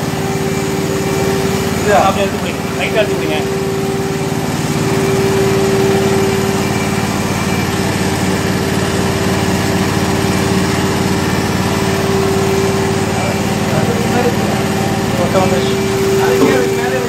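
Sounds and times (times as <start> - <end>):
vacuum pump humming: 0.0 - 17.0.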